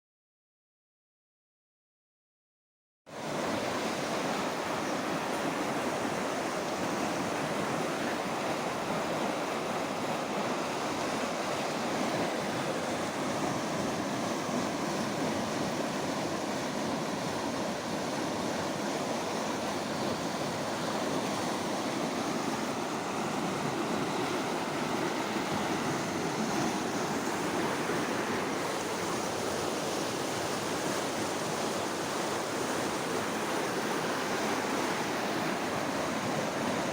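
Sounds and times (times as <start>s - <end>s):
water rushing along a canal: 3.1s - 36.9s.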